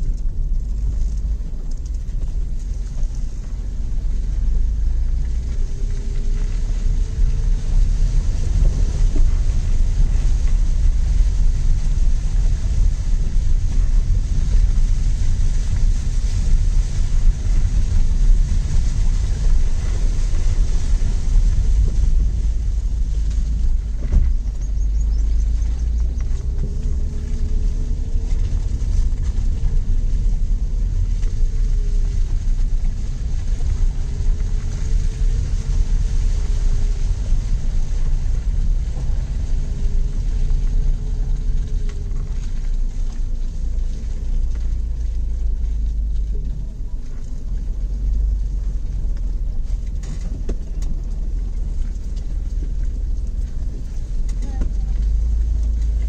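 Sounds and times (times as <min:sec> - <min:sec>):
car cabin rumble on rough track: 0:00.0 - 0:56.0.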